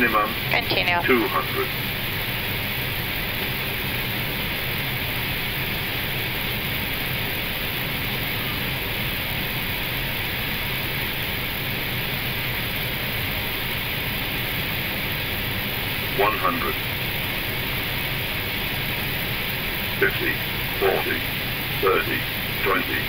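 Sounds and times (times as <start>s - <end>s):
cockpit airflow and engine noise: 0.0s - 23.0s.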